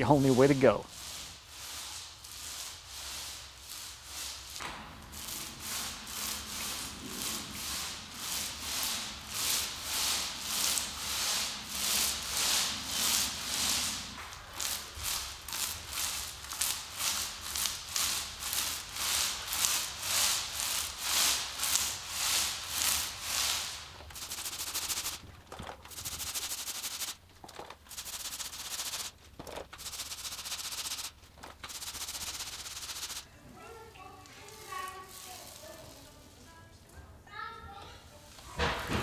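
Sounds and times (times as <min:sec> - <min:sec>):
paint roller rolling on concrete: 0:00.0 - 0:36.8.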